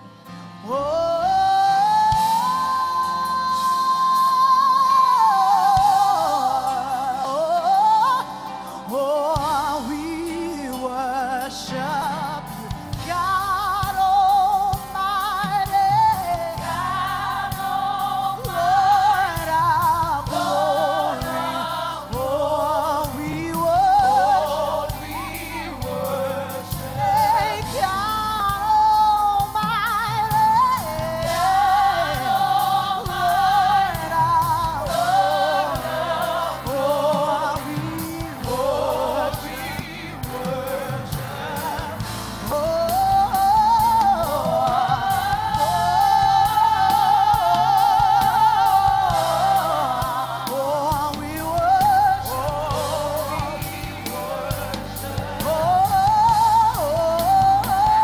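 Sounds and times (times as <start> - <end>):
keyboard accompaniment: 0.0 - 58.0
woman singing gospel melody: 0.4 - 58.0.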